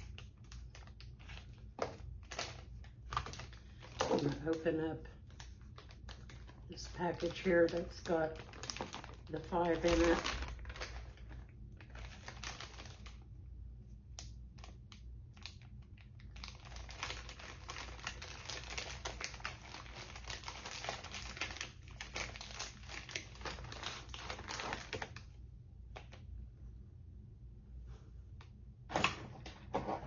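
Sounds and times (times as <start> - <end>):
package crinkling and rustling: 0.0 - 13.3, 14.5 - 26.3.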